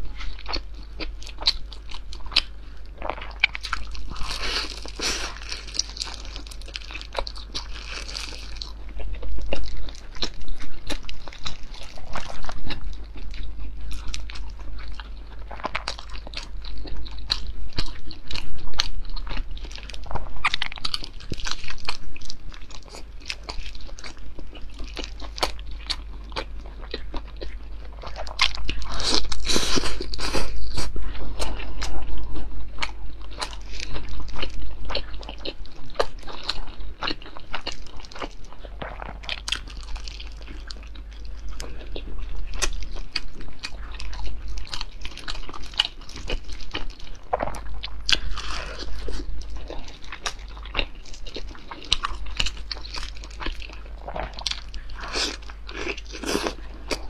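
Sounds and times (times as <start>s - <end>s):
biting and chewing soft buns: 0.0s - 57.0s.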